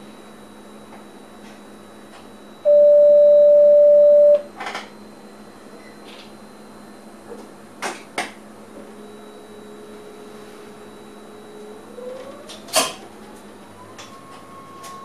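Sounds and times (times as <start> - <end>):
electric drive whine: 0.0 - 7.3, 8.5 - 15.0.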